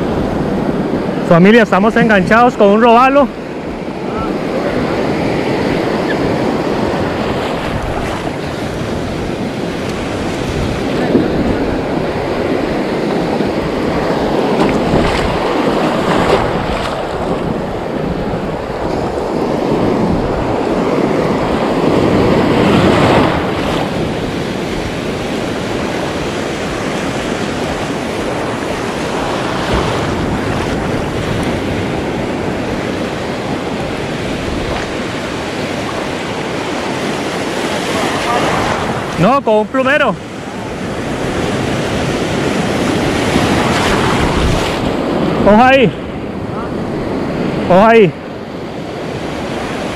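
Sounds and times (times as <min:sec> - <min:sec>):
wind on microphone: 0:00.0 - 0:39.3, 0:40.2 - 0:49.9
surf washing and breaking: 0:00.0 - 0:49.9.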